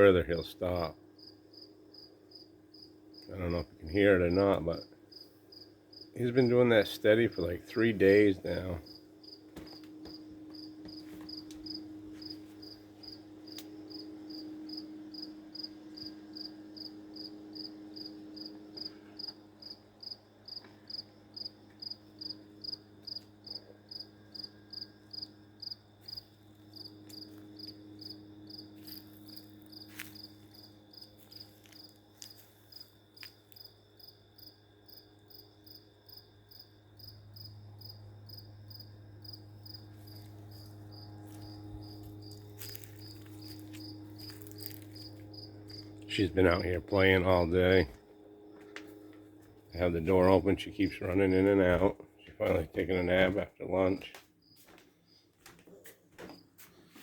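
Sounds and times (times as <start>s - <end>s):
cricket chirping: 0.1s - 56.7s.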